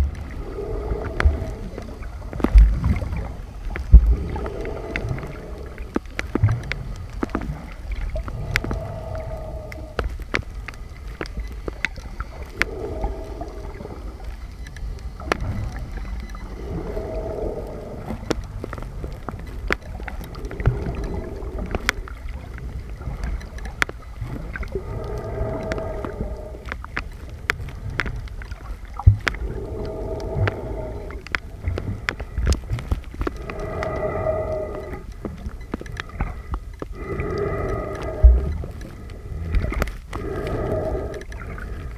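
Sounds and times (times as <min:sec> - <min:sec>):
low boat rumble: 0:00.0 - 0:41.9
muffled moaning tone: 0:00.0 - 0:41.9.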